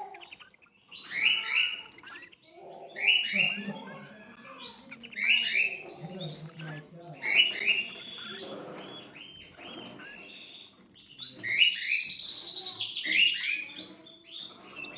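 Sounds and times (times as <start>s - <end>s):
canaries chirping: 0.0s - 14.9s
canary trill: 0.0s - 14.9s.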